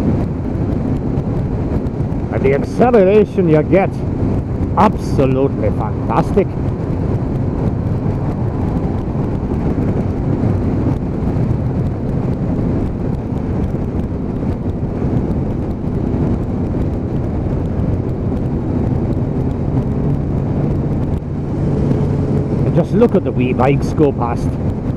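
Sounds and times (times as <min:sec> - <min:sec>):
motorcycle engine running: 0:00.0 - 0:24.9
wind rushing over microphone: 0:00.0 - 0:24.9.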